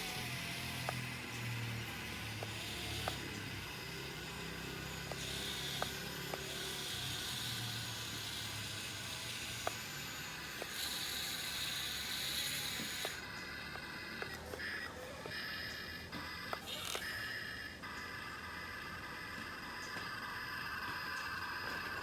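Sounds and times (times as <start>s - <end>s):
electric motors humming: 0.0s - 22.0s
high motor whine: 0.0s - 22.0s
sharp small clicks: 0.0s - 22.0s.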